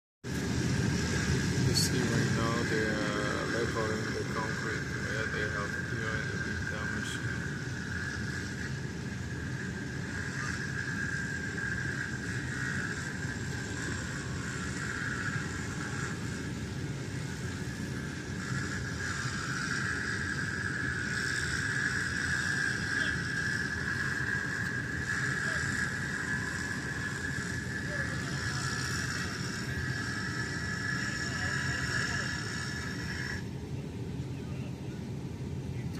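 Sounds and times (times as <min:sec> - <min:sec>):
engine low rumble: 0:00.2 - 0:35.9
high whine: 0:00.2 - 0:35.9.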